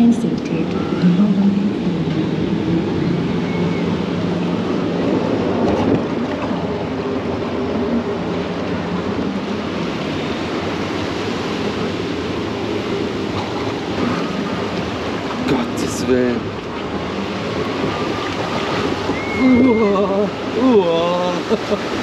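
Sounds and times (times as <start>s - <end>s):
water rushing and splashing: 0.0s - 22.0s.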